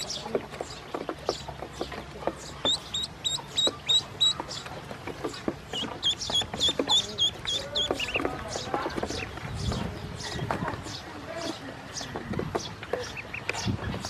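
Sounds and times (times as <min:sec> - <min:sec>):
ducklings peeping: 0:00.0 - 0:14.0.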